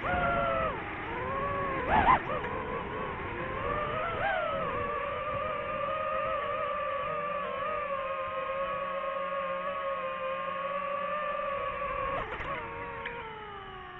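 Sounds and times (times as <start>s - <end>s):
drone propellers whining: 0.0s - 13.9s.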